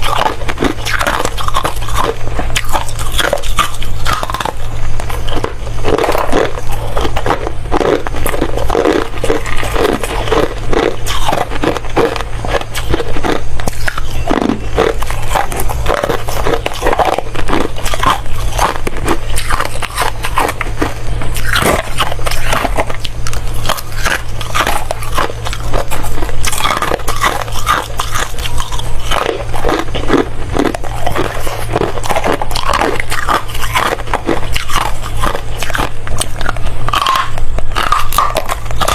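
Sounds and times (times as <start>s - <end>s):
ice being chewed: 0.0s - 38.9s
steady low hum: 0.0s - 38.9s.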